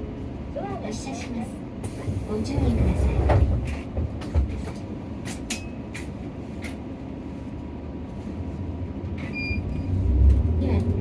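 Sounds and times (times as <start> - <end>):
bus engine and road rumble: 0.0 - 11.0
bus body rattles and clicks: 0.6 - 11.0.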